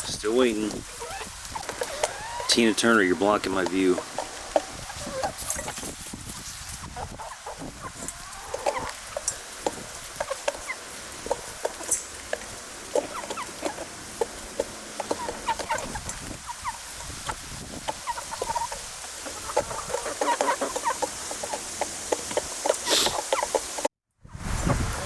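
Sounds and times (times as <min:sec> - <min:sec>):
hens clucking: 0:00.0 - 0:23.9.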